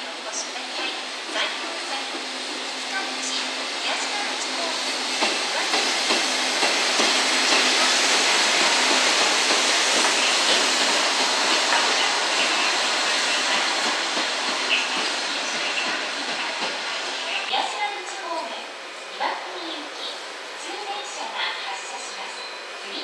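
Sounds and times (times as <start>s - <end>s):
train wheels rolling on rail: 0.0s - 23.0s.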